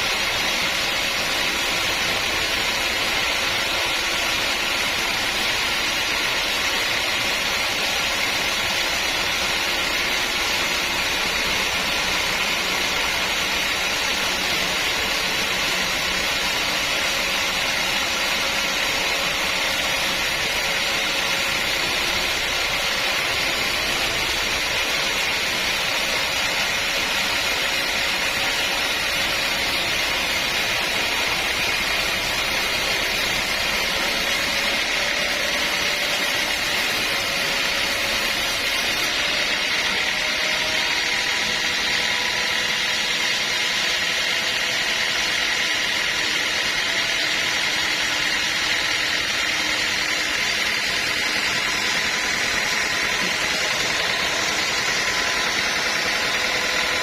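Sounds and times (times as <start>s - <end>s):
sawmill machinery roaring: 0.0s - 57.0s.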